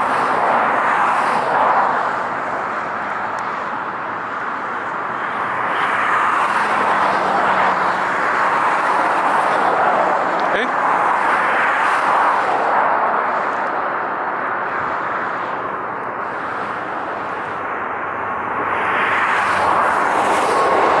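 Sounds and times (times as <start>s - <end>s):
jet engines at take-off thrust: 0.0s - 21.0s.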